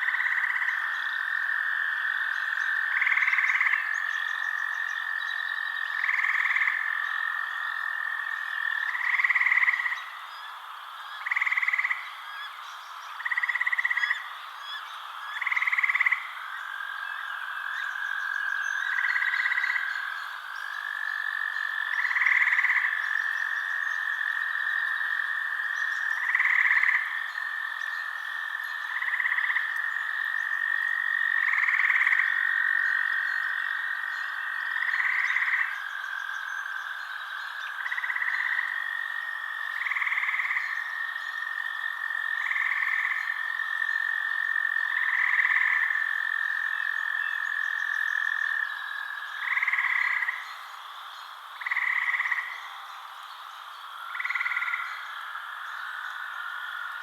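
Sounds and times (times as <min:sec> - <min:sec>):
frog croaking: 0:00.0 - 0:57.0
frogs trilling: 0:00.0 - 0:57.0.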